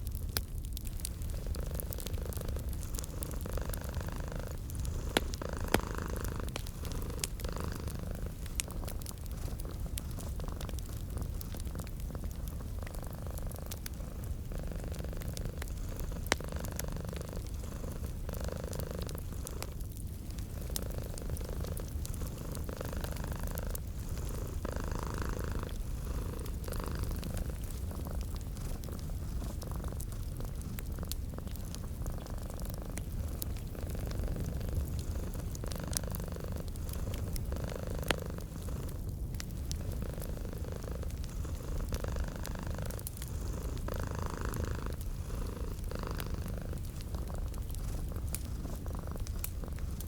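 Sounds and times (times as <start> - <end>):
fireplace crackling: 0.0 - 50.0
cat purring: 0.7 - 50.0.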